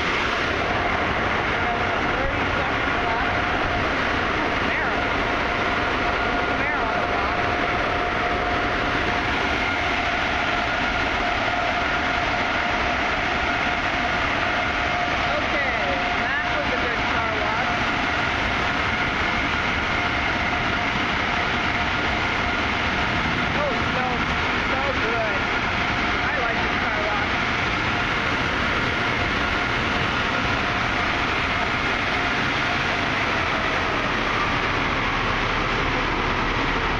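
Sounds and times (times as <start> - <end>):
car wash machinery roaring: 0.0 - 36.9
constant whine: 0.0 - 36.9
dryer blowers rushing air: 0.0 - 36.9.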